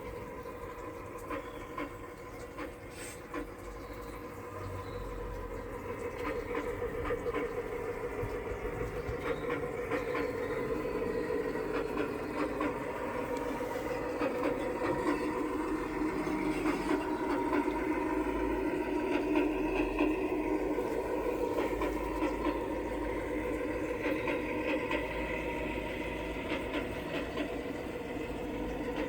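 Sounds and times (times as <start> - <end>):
light clicks of train on track: 0.0 - 29.0
model train motor hum: 0.0 - 29.0.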